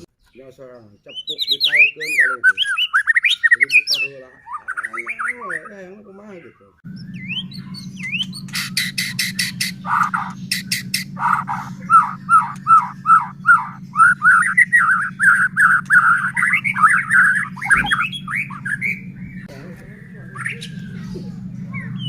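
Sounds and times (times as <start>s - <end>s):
songbird singing: 0.0s - 22.0s
steady low hum: 4.2s - 22.0s.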